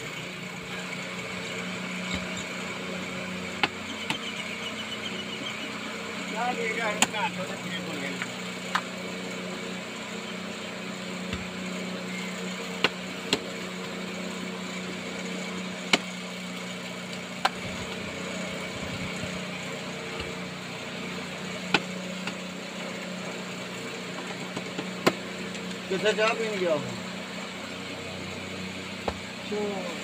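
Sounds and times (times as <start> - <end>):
low motor hum: 0.0 - 30.0.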